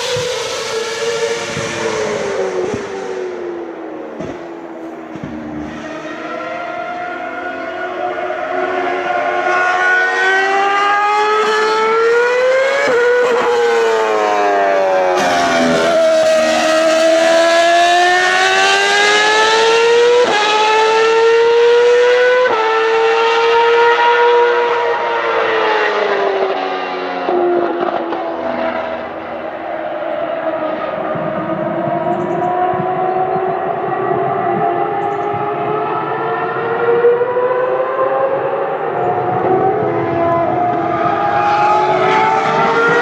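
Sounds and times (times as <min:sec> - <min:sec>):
racing engine screaming: 0:04.9 - 0:43.0.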